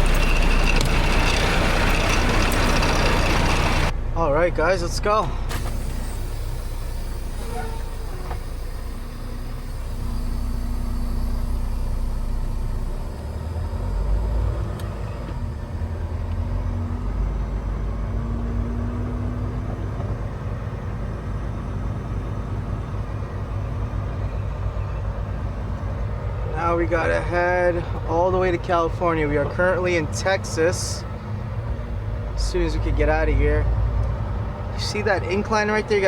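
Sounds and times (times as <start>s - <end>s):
truck engine rumbling: 0.0s - 36.0s.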